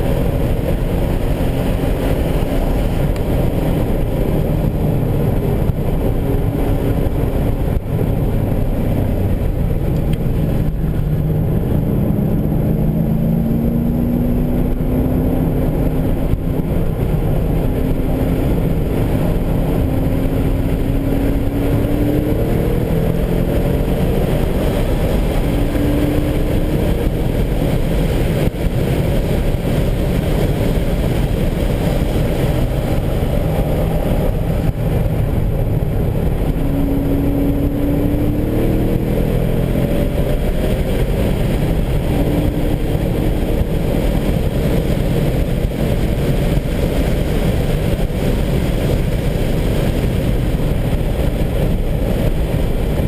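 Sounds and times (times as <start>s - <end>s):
car engine accelerating: 0.0s - 53.0s
road noise: 0.0s - 53.0s
wind noise: 0.0s - 53.0s.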